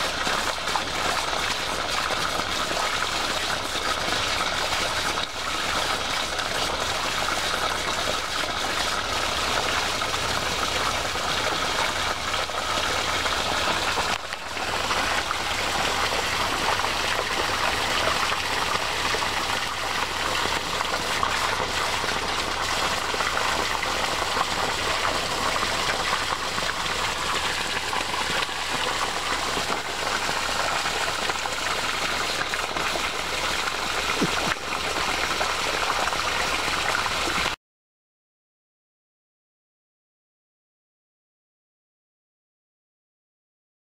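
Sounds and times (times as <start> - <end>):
water gushing from a hosepipe: 0.0 - 37.6.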